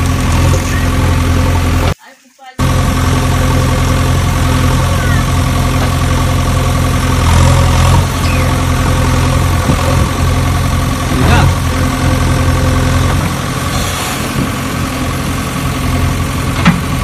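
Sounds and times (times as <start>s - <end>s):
engine idling: 0.0s - 2.0s, 2.6s - 17.0s.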